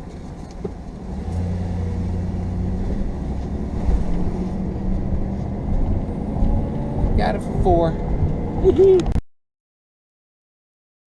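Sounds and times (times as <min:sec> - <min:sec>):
van engine pulling away: 0:00.0 - 0:09.0.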